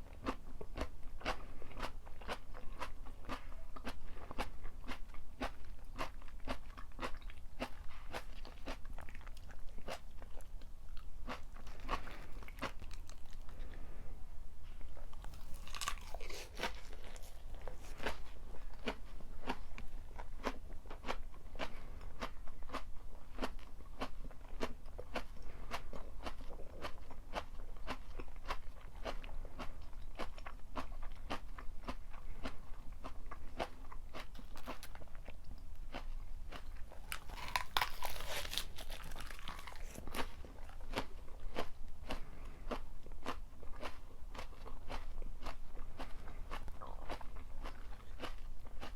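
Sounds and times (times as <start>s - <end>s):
crunchy chewing: 0.0s - 13.9s, 14.8s - 48.9s.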